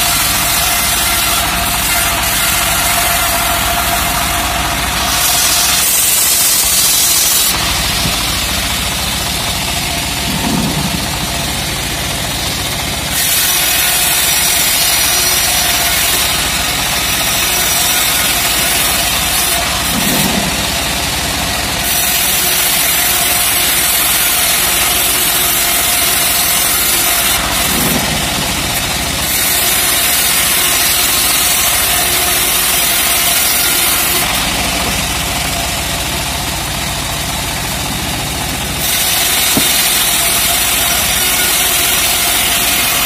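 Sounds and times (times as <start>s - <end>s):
bandsaw mill drone: 0.0s - 43.0s
saw cutting wood: 0.0s - 43.0s.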